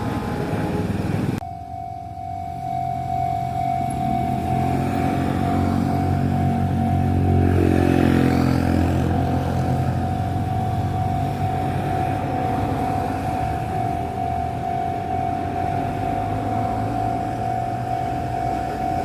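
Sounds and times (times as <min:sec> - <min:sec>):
electric train motor hum: 0:00.0 - 0:19.0
steady high tone: 0:00.0 - 0:19.0.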